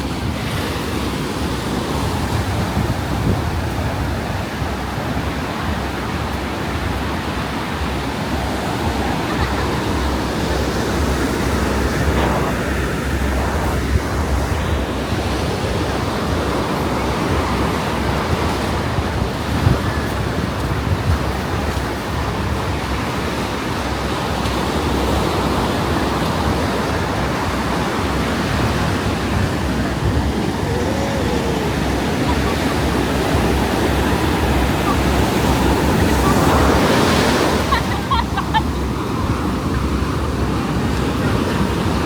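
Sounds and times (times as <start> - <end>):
ocean surf washing on beach: 0.0 - 42.0
wind rumbling on microphone: 0.0 - 42.0.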